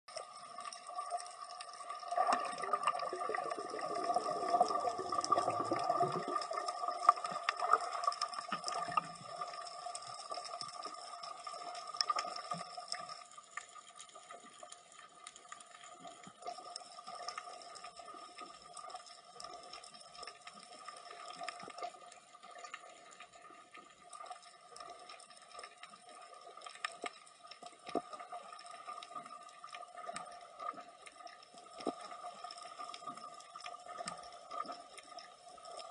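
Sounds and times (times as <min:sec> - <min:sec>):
crackling clicks: 0:00.1 - 0:35.9
steady underwater hum: 0:00.1 - 0:35.9
water movement: 0:00.1 - 0:35.9.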